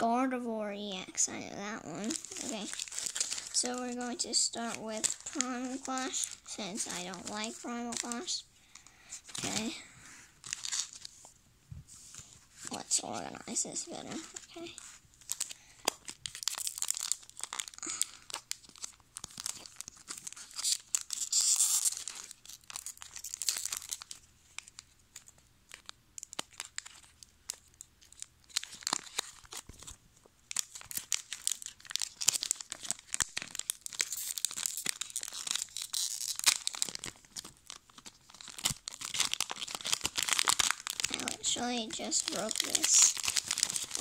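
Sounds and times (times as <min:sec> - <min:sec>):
foil wrapper tearing and crinkling: 0:01.9 - 0:09.8, 0:10.4 - 0:11.2, 0:12.6 - 0:44.0.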